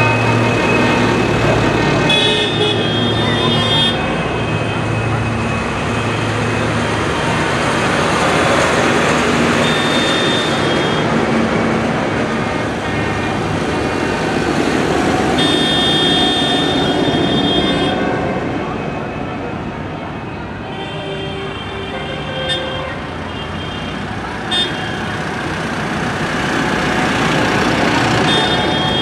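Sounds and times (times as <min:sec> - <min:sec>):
tractor engines driving past: 0:00.0 - 0:20.2, 0:24.0 - 0:29.0.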